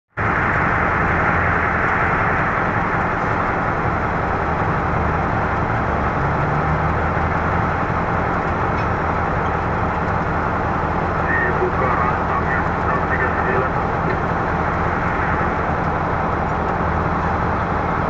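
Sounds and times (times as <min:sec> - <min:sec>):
heavy diesel machinery drone: 0:00.1 - 0:18.0.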